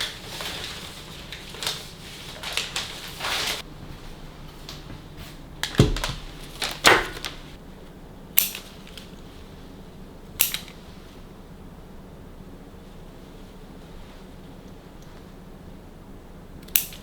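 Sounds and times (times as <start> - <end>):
low steady hum: 0.0 - 16.8.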